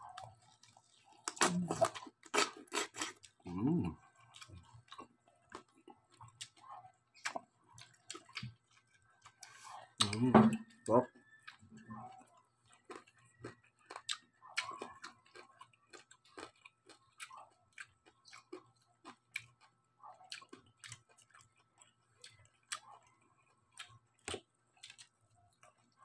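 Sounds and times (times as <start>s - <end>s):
chewing crispy pork crackling: 0.0s - 26.0s.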